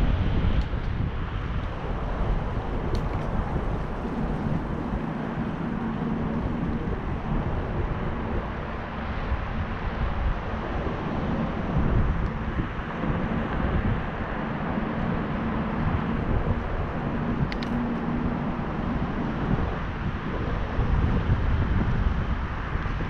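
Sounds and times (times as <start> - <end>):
bicycle rolling noise: 0.0 - 23.0
wind buffeting microphone: 0.0 - 23.0.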